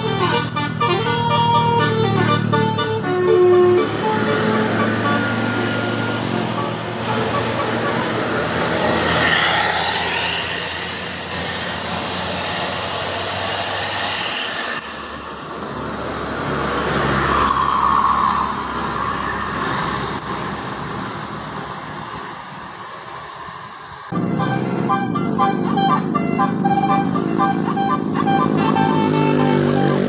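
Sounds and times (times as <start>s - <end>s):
heavy vehicles driving past: 0.0s - 30.0s.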